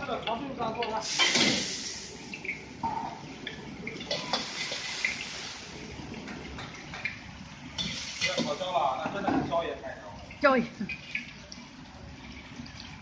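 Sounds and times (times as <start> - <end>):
aromatics sizzling in hot oil: 0.0 - 6.1, 6.8 - 12.1.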